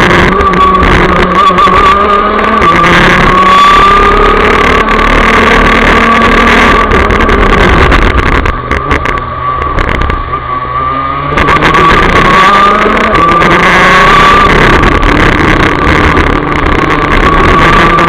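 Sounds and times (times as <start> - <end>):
kart engine at high revs: 0.0 - 18.0.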